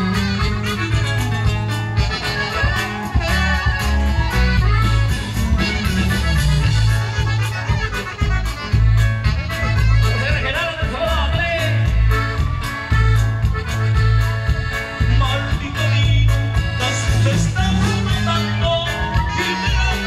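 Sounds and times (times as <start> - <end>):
saxophone: 0.0 - 11.0, 12.0 - 20.0
accordion: 0.0 - 20.0
bass line: 0.0 - 20.0
drums: 0.0 - 20.0.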